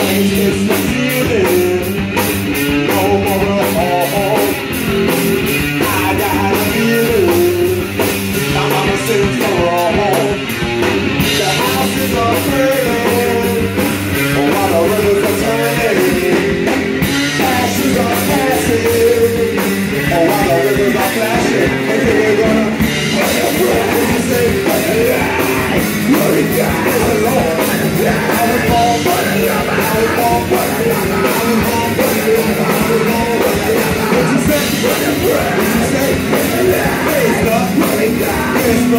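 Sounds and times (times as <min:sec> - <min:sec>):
person singing: 0:00.0 - 0:04.8, 0:05.6 - 0:10.6, 0:11.2 - 0:38.9
punk rock band playing: 0:00.0 - 0:38.9.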